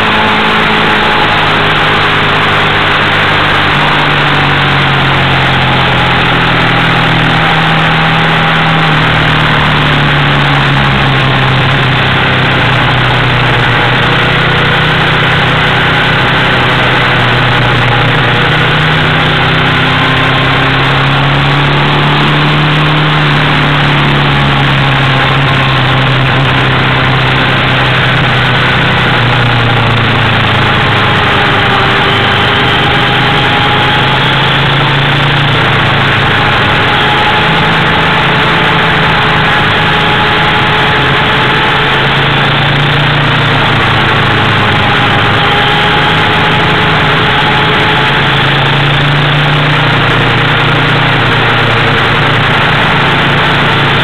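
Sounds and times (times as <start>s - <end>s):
motorcycle engine revving: 0.0s - 54.0s
wind and road noise: 0.0s - 54.0s.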